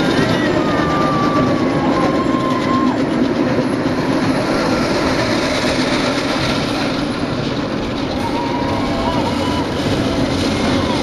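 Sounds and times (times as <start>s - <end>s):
roller coaster rumbling on track: 0.0s - 11.0s.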